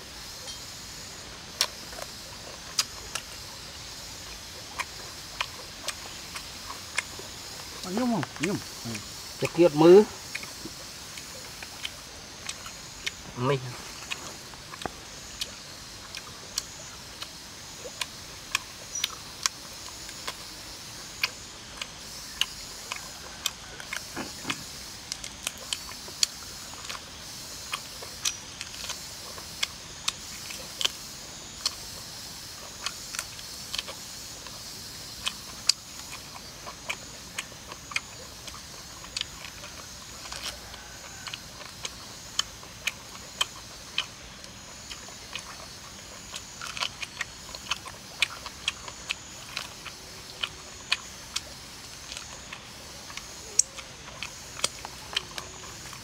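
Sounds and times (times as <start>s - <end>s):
steady high hiss: 0.0s - 56.0s
person chewing chicken: 1.6s - 9.6s, 10.2s - 56.0s.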